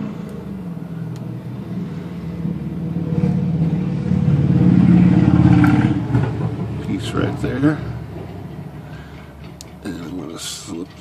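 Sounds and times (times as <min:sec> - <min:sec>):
low motor hum: 0:00.0 - 0:10.1.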